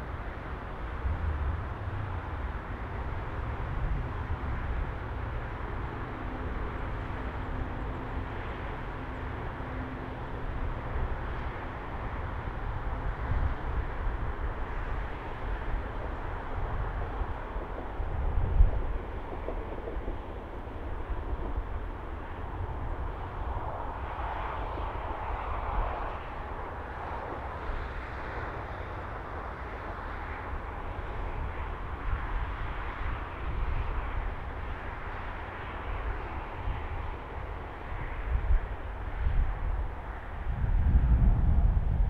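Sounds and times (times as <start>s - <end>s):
distant train rumbling: 0.0s - 42.0s
wind buffeting microphone: 0.0s - 42.0s.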